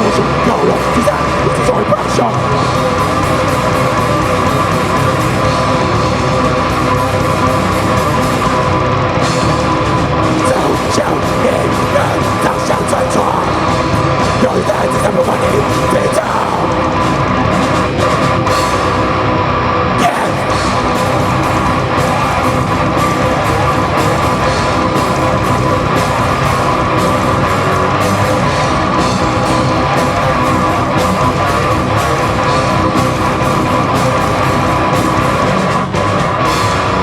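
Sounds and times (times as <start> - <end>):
distorted electric guitars: 0.0 - 37.0
driving drum kit: 0.0 - 37.0.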